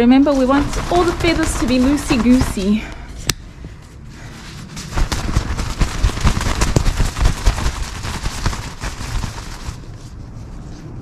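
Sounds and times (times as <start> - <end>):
fabric flapping: 0.0 - 3.2, 4.0 - 11.0.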